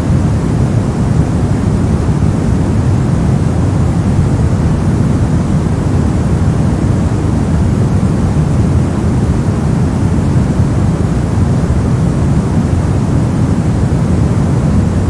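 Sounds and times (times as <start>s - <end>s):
deep white noise: 0.0s - 15.0s.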